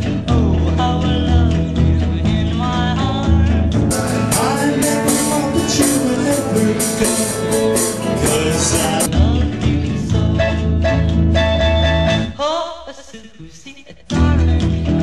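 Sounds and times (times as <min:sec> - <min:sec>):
live band recording: 0:00.0 - 0:12.7, 0:14.0 - 0:15.0
rock and roll music with singing: 0:00.0 - 0:15.0.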